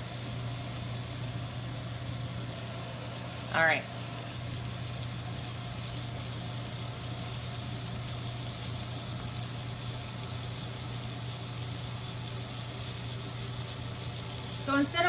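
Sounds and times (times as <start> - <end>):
steak sizzling in skillet: 0.0 - 15.0
vent fan humming: 0.0 - 15.0.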